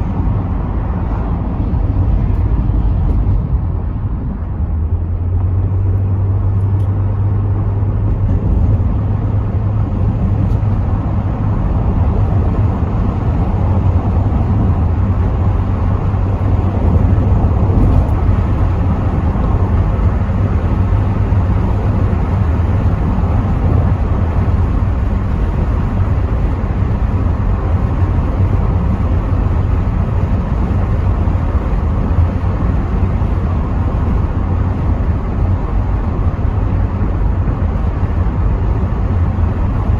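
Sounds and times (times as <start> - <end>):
car engine drone: 0.0 - 39.9
tyre and wind noise: 0.0 - 39.9.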